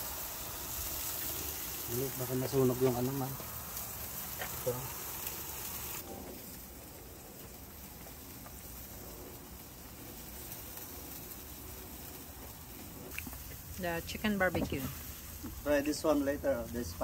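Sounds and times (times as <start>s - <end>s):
meat sizzling on grill: 0.0s - 17.0s.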